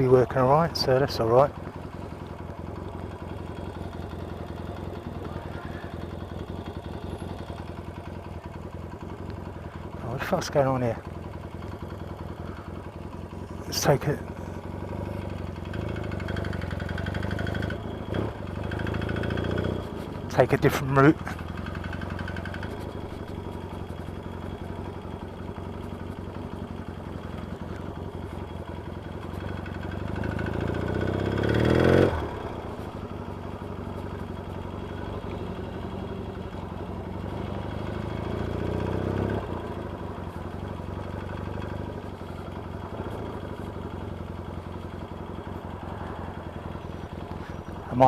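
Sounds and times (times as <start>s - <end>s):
engine tapping noise: 0.0s - 48.0s
motorcycle engine accelerating: 0.0s - 48.0s.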